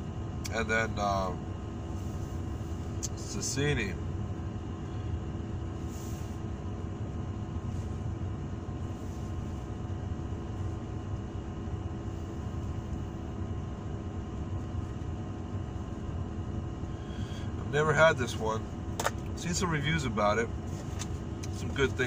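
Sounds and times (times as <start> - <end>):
vehicle cab rumble and hum: 0.0 - 22.0.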